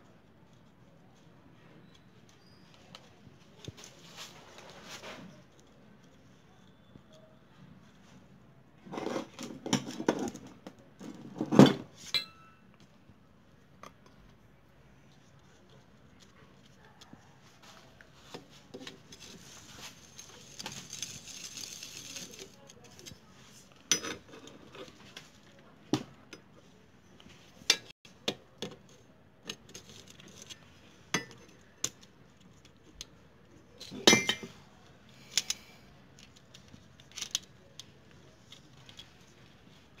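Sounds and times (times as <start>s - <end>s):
rustling handling noise: 0.0s - 40.0s.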